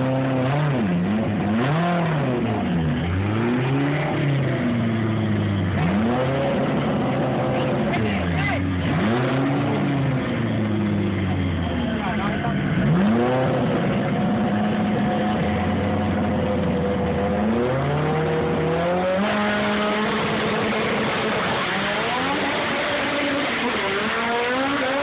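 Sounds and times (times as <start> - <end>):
drag racing car engines revving: 0.0 - 25.0.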